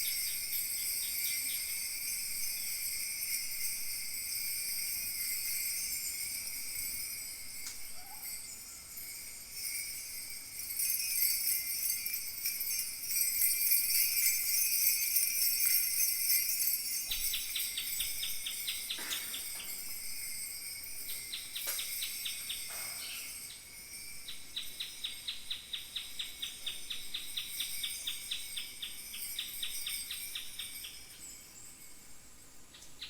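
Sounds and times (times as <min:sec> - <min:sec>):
bronze bells jingling: 0:00.0 - 0:33.0.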